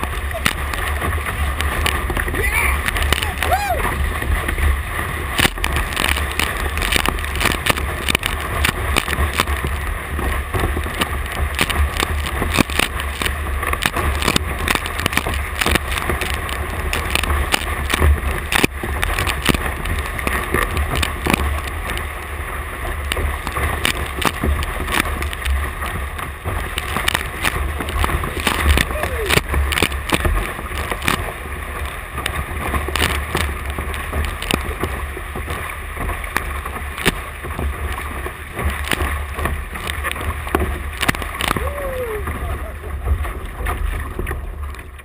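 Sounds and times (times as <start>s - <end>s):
paddle stroke splashes: 0.0s - 45.0s
steady low rumble: 0.0s - 45.0s
water rushing around canoe hull: 0.0s - 45.0s.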